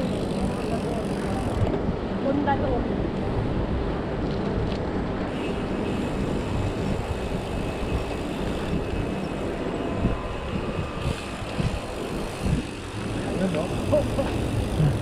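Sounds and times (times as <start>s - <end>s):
road noise rumble: 0.0s - 15.0s
wind buffeting microphone: 0.0s - 15.0s.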